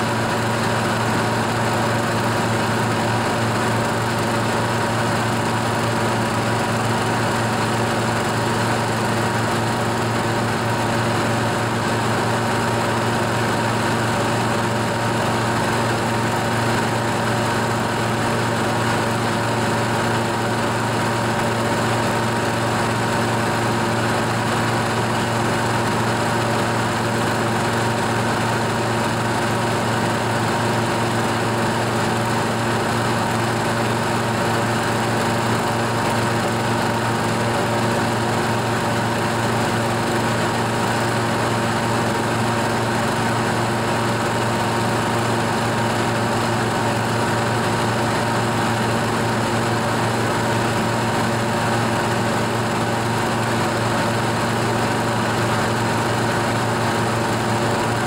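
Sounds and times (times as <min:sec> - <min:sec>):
mower engine running: 0:00.0 - 0:58.0.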